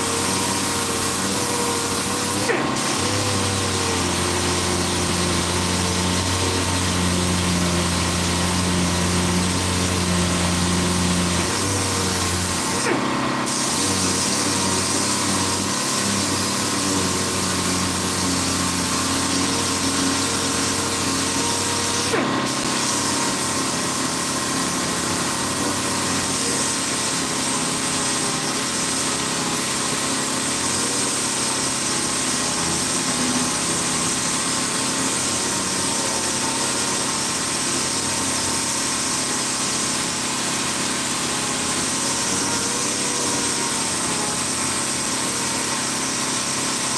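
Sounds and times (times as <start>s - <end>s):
power sander whirring: 0.0s - 46.9s.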